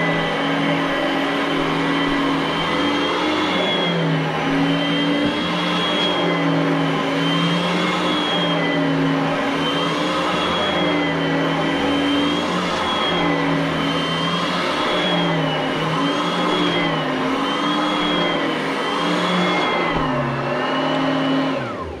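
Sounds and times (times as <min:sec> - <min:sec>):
vacuum cleaner on carpet: 0:00.0 - 0:22.0.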